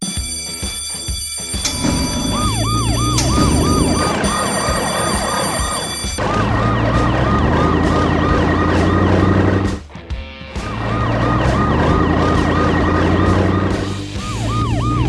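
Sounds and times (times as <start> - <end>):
siren yelping: 0.1 - 9.8, 10.6 - 15.0.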